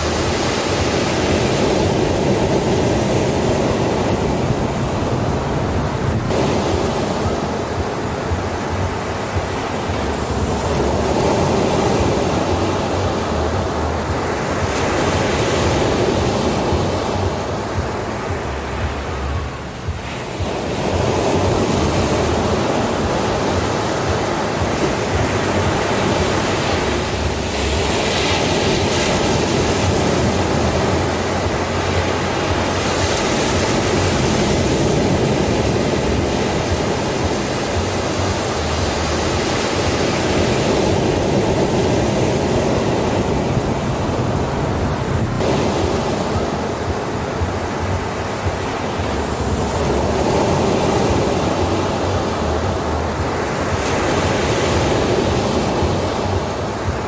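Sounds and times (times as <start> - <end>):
ocean surf breaking on shore: 0.0 - 57.0.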